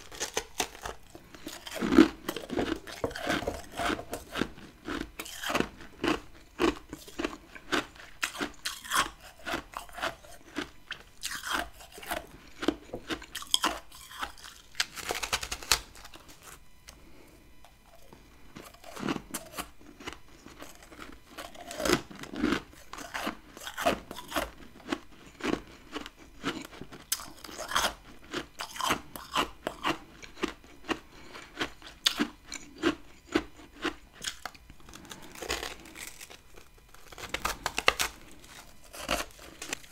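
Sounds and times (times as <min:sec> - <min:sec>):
person chewing crunchy frost: 0:00.0 - 0:39.9.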